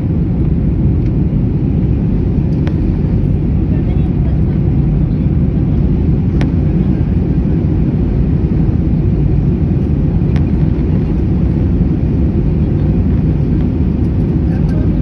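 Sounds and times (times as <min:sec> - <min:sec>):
airliner engine and airflow rumble: 0:00.0 - 0:15.0.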